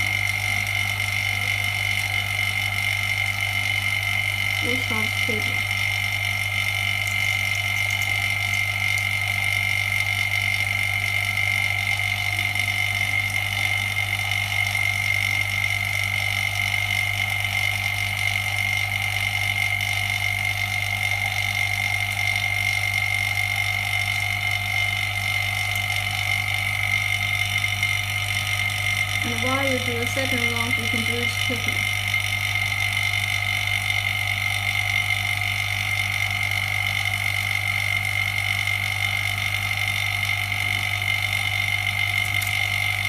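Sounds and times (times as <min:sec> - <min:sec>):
machine high whine: 0:00.0 - 0:43.0
machine low hum: 0:00.0 - 0:43.0.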